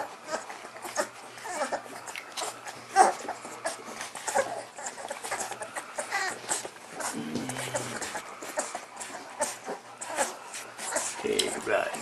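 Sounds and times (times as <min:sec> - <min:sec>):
puppy yelp: 0:00.0 - 0:07.2, 0:07.8 - 0:11.7
puppies whimpering and squeaking: 0:00.0 - 0:12.0.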